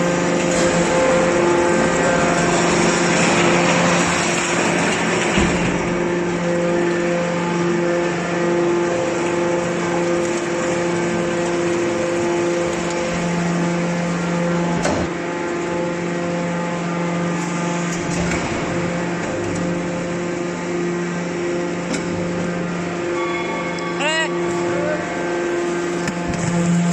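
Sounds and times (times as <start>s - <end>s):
motor humming: 0.0s - 26.9s.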